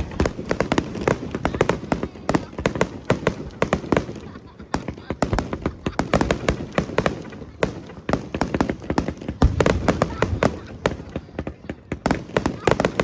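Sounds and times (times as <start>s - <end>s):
fireworks cracks and bangs: 0.0s - 13.0s.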